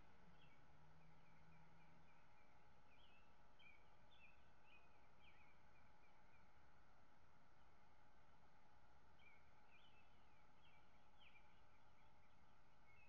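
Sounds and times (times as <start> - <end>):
faint bird song: 0.0 - 13.0
low steady hum: 0.0 - 13.0.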